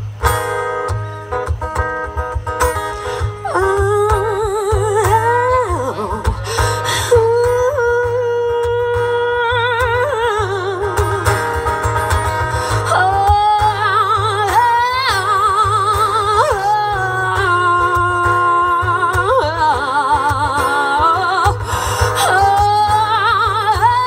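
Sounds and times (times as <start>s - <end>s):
acoustic guitar: 0.0s - 24.0s
person singing with vibrato: 2.7s - 24.0s.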